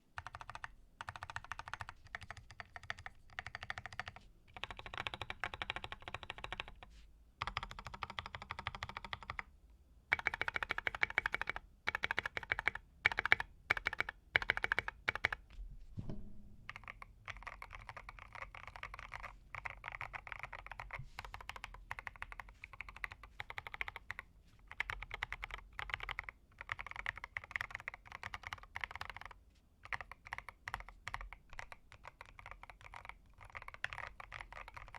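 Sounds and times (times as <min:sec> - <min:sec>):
mechanical keyboard typing: 0:00.2 - 0:09.5, 0:10.1 - 0:15.4, 0:16.7 - 0:34.9.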